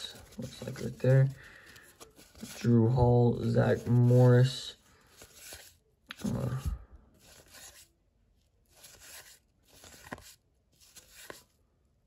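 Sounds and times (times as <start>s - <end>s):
cards sliding swishes: 0.0s - 2.8s, 3.4s - 7.9s, 8.7s - 11.6s.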